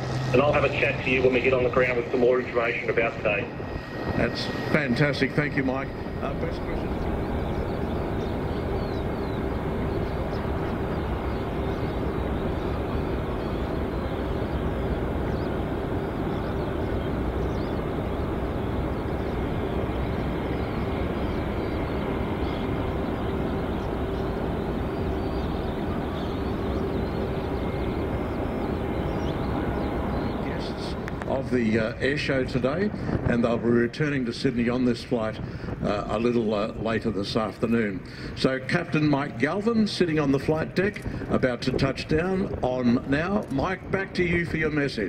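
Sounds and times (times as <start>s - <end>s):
distant jet engines rumbling: 0.0s - 45.0s.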